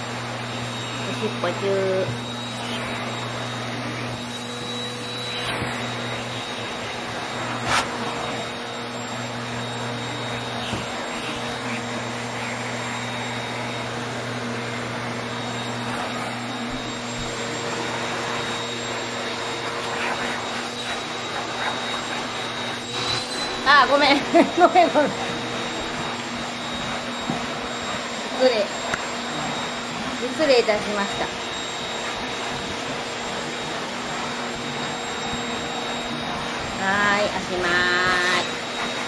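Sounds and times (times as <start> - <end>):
grooming tool motor hum and whine: 0.0 - 39.0.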